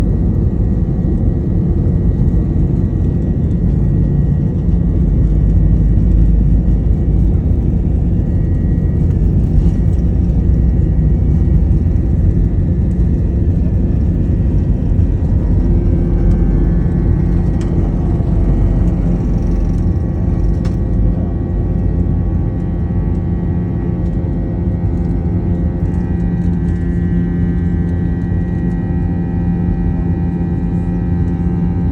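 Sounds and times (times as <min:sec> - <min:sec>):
faint whine: 0:00.0 - 0:31.9
jet engines low rumble: 0:00.0 - 0:31.9.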